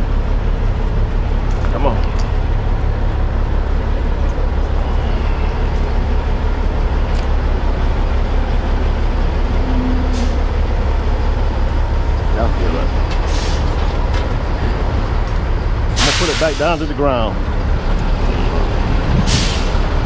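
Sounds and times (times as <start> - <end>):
diesel truck engine rumbling: 0.0 - 20.0.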